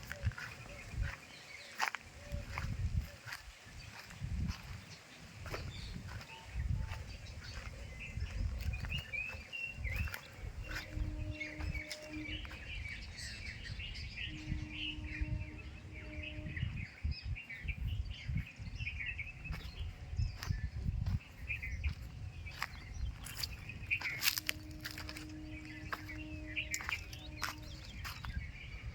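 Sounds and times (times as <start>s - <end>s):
many birds chirping: 0.0s - 28.9s.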